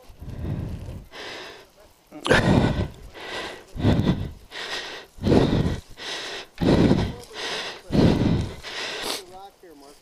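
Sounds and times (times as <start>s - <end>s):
man panting hard: 0.2s - 1.7s, 2.3s - 9.3s.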